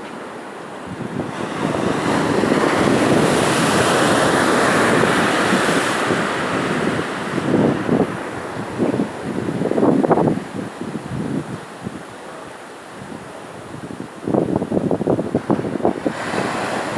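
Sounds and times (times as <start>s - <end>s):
sea waves breaking on shore: 0.0s - 16.9s.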